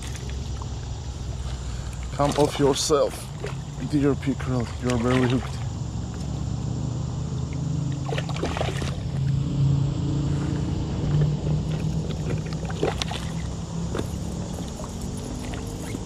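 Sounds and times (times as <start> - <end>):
fish splashing in water: 0.0 - 6.3, 7.2 - 9.4, 11.0 - 16.0
steady low hum: 0.0 - 16.0.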